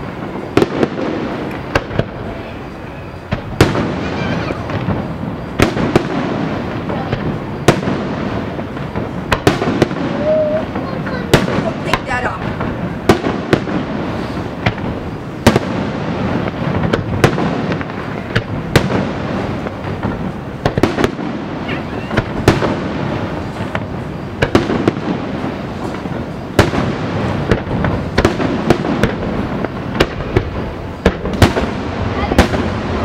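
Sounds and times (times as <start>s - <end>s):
fireworks bursting with sharp bangs: 0.0s - 33.0s
fireworks crackling and rumble: 0.0s - 33.0s.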